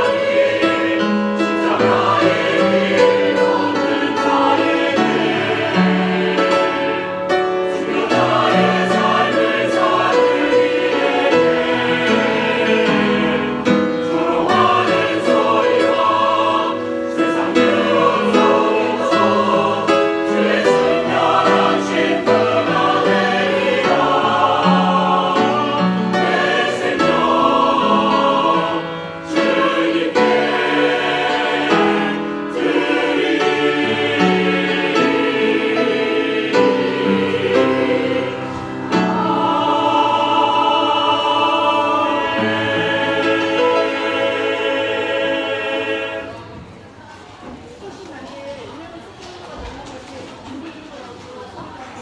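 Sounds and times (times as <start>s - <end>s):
mixed choir singing: 0.0s - 47.6s.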